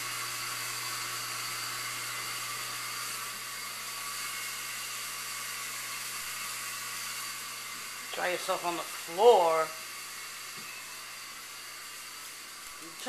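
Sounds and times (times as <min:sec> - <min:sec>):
appliance hiss and hum: 0:00.0 - 0:13.0.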